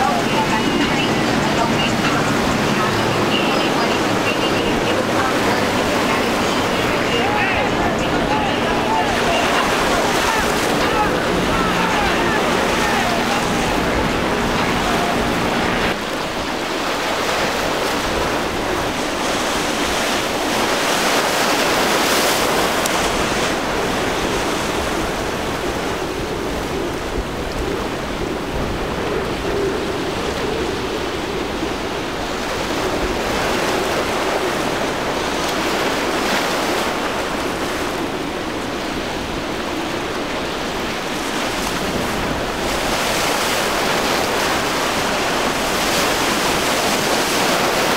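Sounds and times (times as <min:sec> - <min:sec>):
breaking surf: 0:00.0 - 0:47.9
outboard engine humming: 0:00.0 - 0:47.9
wind buffeting microphone: 0:00.0 - 0:47.9.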